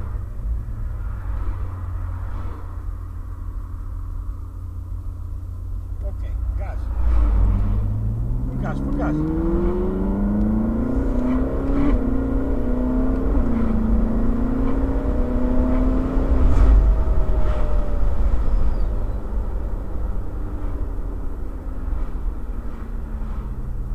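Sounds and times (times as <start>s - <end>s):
car engine accelerating: 0.0s - 23.9s
wind and road noise: 0.0s - 23.9s.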